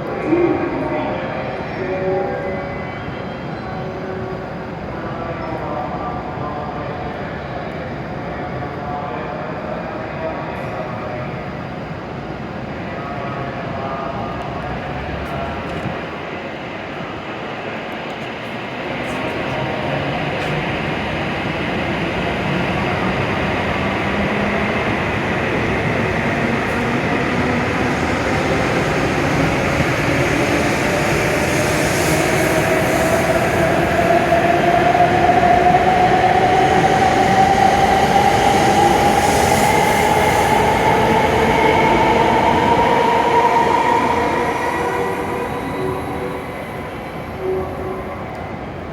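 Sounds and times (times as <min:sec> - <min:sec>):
train rumble: 0:03.2 - 0:48.9.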